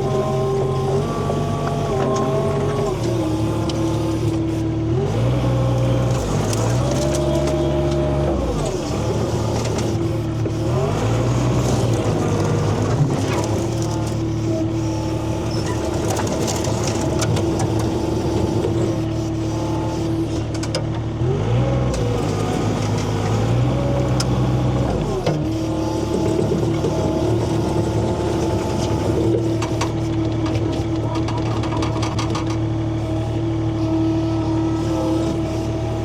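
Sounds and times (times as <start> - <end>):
skid steer engine running: 0.0 - 36.0.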